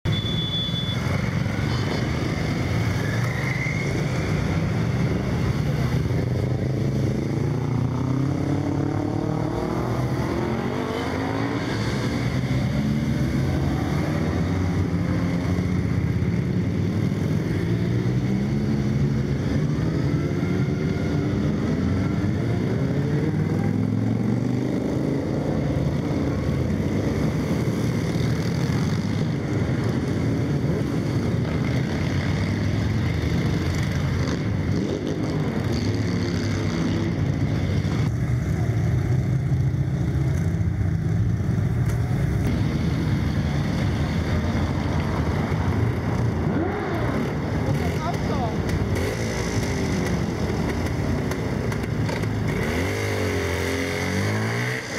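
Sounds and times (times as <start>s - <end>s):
motorcycles revving past: 1.0s - 54.9s.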